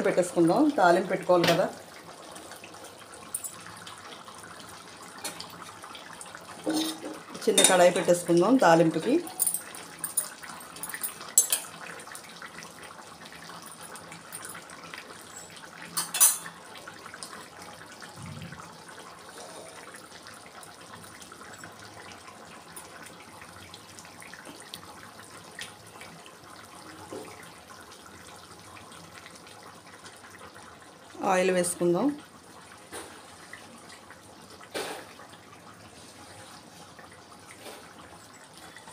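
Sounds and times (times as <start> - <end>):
curry simmering and bubbling: 0.1 - 9.0, 9.6 - 38.9.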